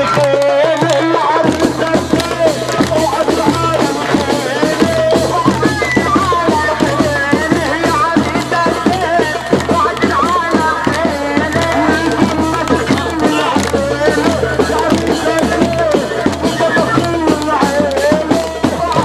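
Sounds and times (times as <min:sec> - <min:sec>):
fast hand-drum beats: 0:00.0 - 0:19.0.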